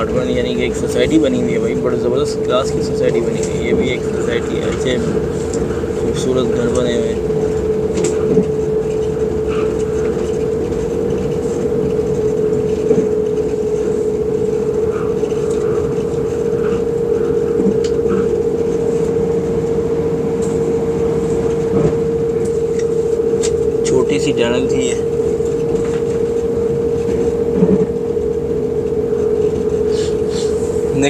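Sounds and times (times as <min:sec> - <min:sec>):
train running rumble and whine: 0:00.0 - 0:31.0.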